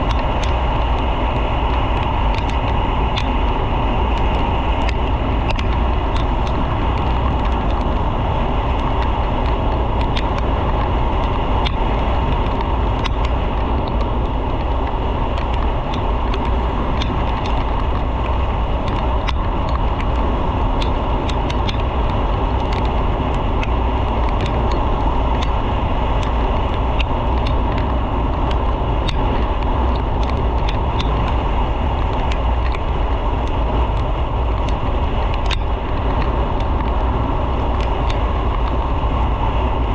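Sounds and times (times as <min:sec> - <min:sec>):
faint ticks: 0:00.0 - 0:39.0
wind rush on microphone: 0:00.0 - 0:39.9.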